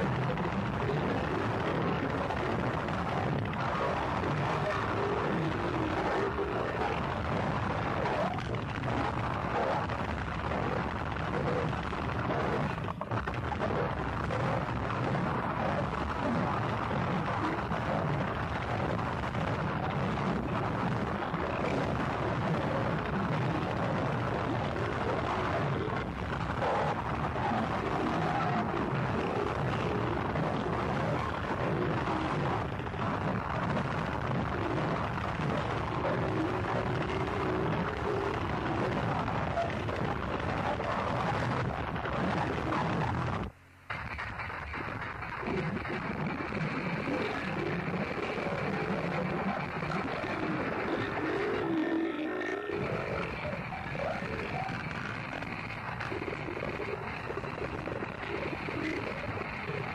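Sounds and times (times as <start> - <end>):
dense distorted noise: 0.0 - 59.9.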